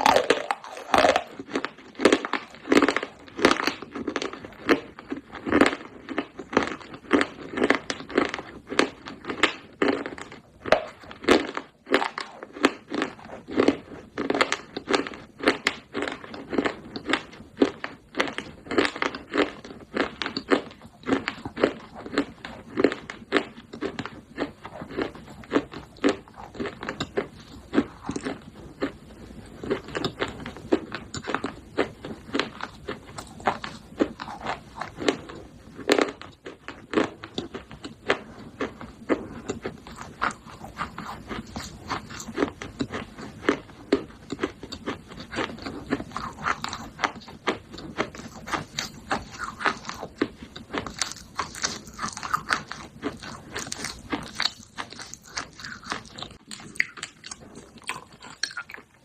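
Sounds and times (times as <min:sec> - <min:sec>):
clay pieces being chewed: 0:00.0 - 0:59.0.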